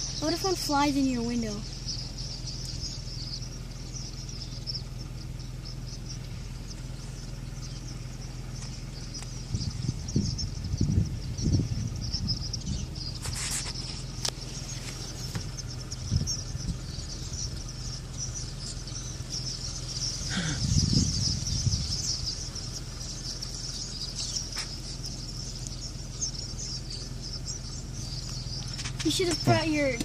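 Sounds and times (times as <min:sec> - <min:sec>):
flock of birds chattering: 0:00.0 - 0:30.0
low rumbles: 0:00.0 - 0:30.0
low steady hum: 0:00.0 - 0:30.0.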